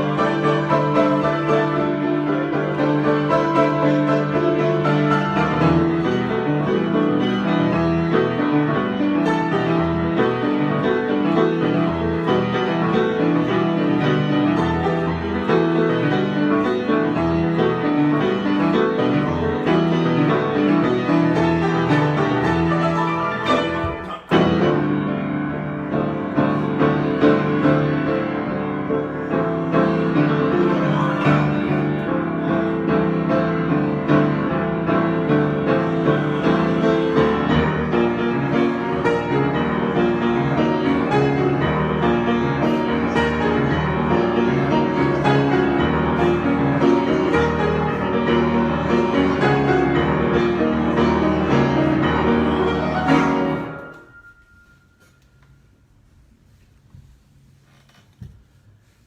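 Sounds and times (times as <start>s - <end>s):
piano improvisation: 0.0s - 59.0s.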